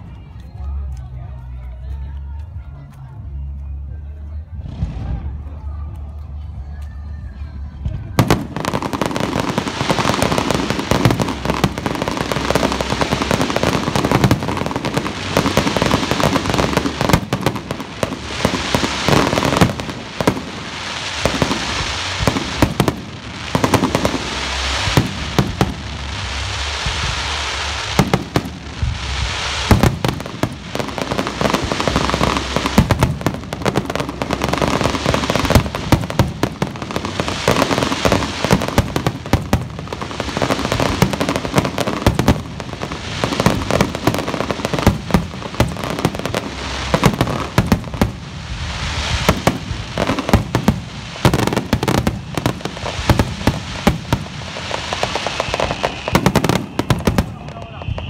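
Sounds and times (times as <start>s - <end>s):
fireworks bangs: 7.8s - 58.0s.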